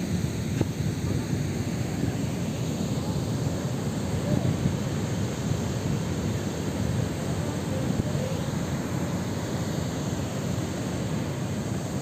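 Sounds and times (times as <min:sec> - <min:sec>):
river water rushing over weir: 0:00.0 - 0:12.0.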